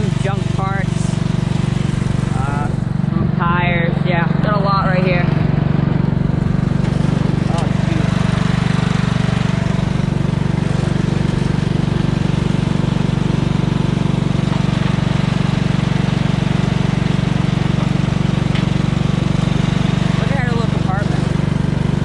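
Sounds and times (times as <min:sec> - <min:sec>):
lawn tractor engine running: 0:00.0 - 0:22.0.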